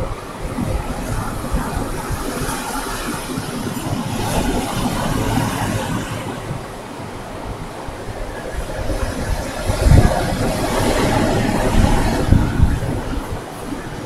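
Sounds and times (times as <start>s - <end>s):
ocean surf washing onto beach: 0.0s - 14.0s
wind rumbling on microphone: 0.0s - 14.0s.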